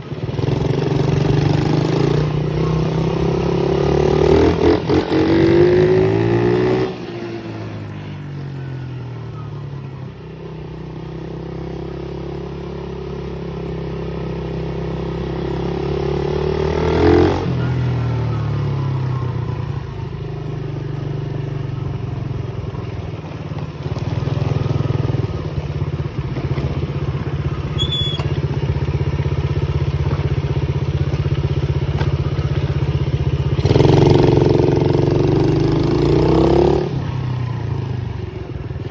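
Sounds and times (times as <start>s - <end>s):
pit bike engine revving: 0.1s - 8.1s, 11.3s - 38.9s.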